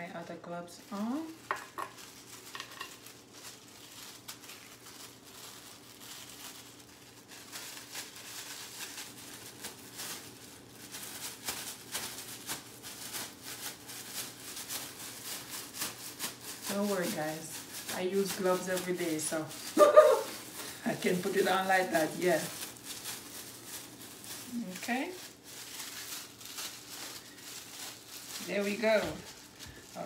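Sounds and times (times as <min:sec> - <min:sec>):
plastic glove crinkling: 0:00.0 - 0:30.0.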